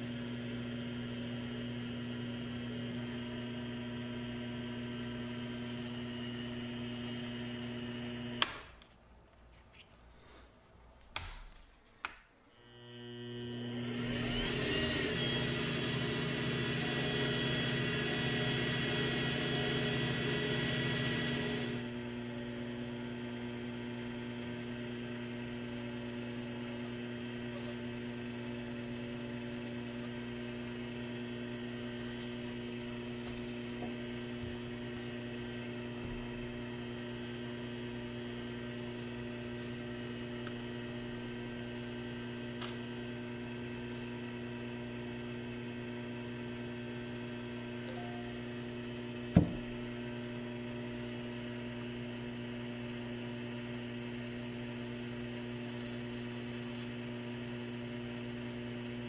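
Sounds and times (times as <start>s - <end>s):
lathe motor humming: 0.0s - 8.4s, 12.7s - 59.0s.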